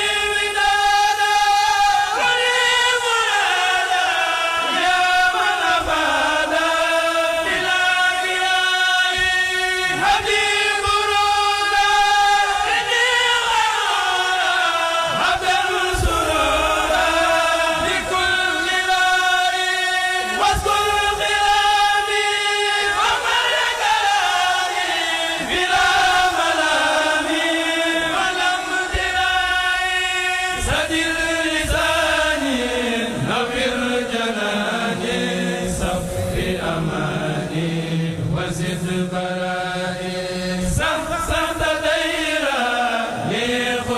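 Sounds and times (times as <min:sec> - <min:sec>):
group of men chanting: 0:00.0 - 0:43.9.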